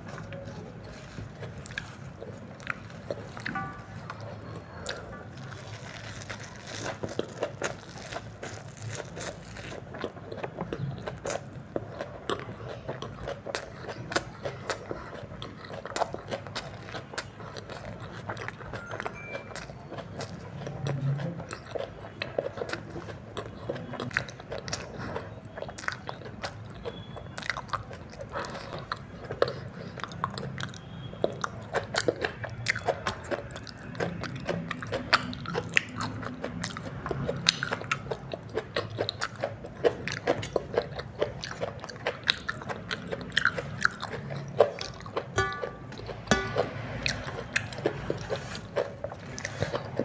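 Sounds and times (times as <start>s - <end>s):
chewing noodles: 0.0s - 50.0s.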